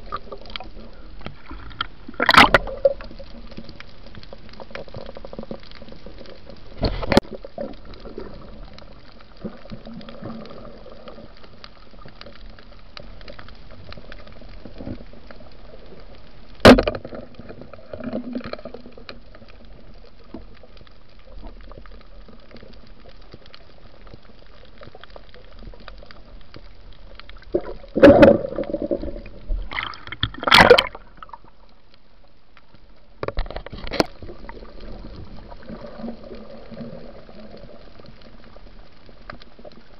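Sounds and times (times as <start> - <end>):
bursts of water noise: 0.0 - 39.8
muffled underwater rush: 0.0 - 39.9.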